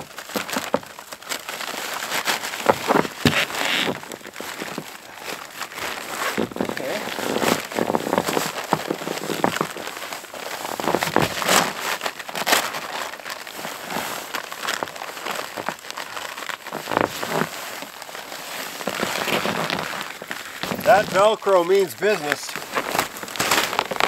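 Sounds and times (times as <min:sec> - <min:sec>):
canvas fabric rustling: 0:00.0 - 0:24.0
velcro crackling and ripping: 0:00.0 - 0:24.0.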